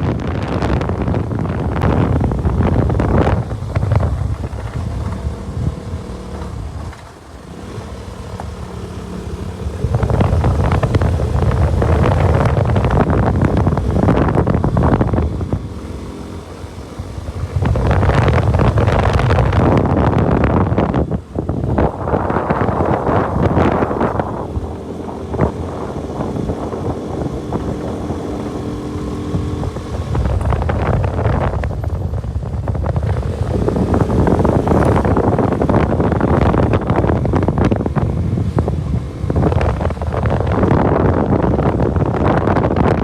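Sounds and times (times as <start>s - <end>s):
motorcycle engine: 0.0s - 43.0s
wind buffeting microphone: 0.0s - 43.0s.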